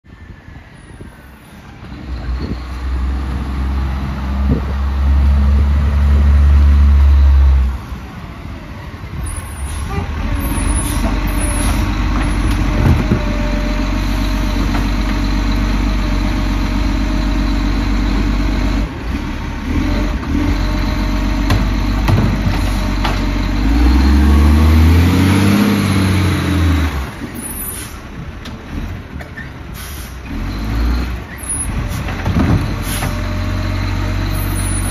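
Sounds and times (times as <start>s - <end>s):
garbage truck diesel engine: 0.0s - 34.9s.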